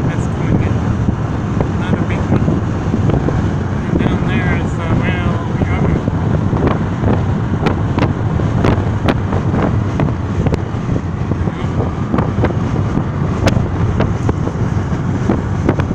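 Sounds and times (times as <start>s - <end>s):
vehicle rumble and wind inside cabin: 0.0s - 15.9s.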